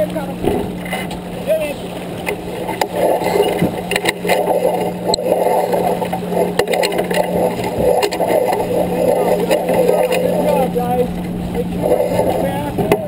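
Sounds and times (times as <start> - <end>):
constant low hum: 0.0 - 13.0
wind and water rushing: 0.0 - 13.0.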